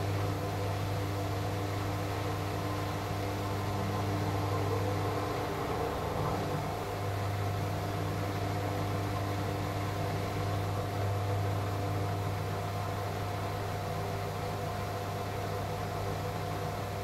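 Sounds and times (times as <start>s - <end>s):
washing machine hum: 0.0s - 17.0s.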